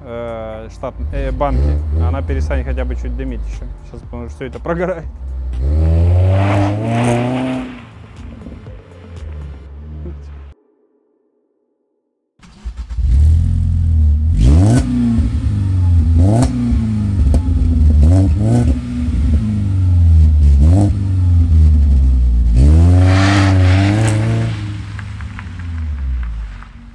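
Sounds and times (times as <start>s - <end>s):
car engine idling and revving: 0.0s - 10.6s, 12.4s - 26.9s.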